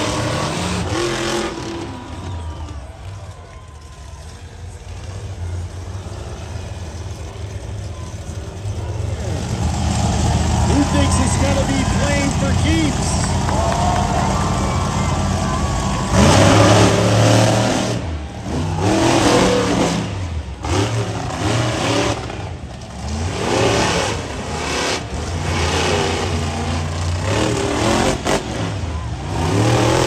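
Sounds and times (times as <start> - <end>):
monster truck engines revving: 0.0 - 30.0.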